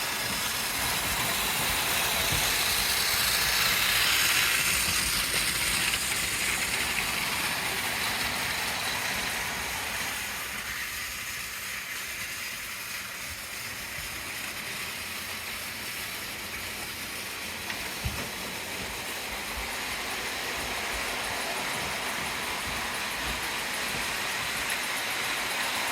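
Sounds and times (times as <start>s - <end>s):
model train running on track: 0.0s - 25.9s.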